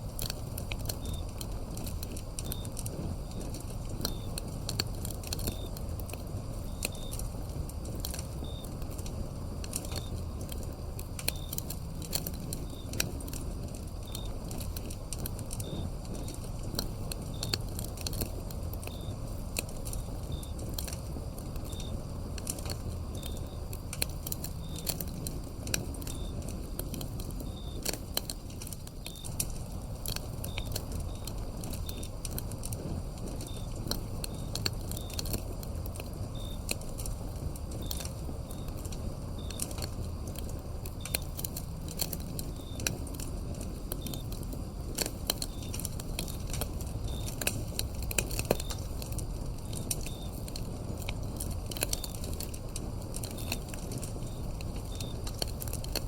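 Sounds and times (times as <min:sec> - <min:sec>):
crickets chirping: 0:00.0 - 0:56.0
wood fire crackling: 0:00.0 - 0:56.0.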